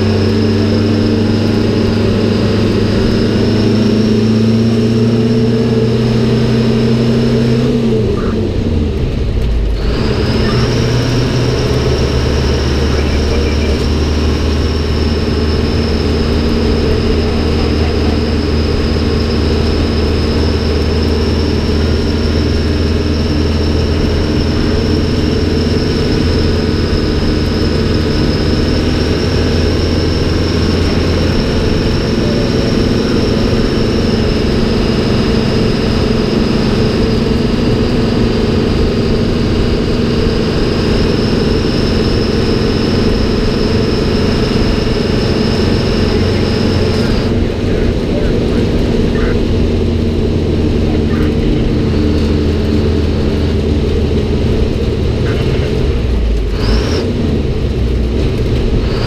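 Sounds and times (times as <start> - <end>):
fire truck engine drone: 0.0 - 59.0
road and wind noise: 0.0 - 59.0
steady high whine: 0.0 - 59.0.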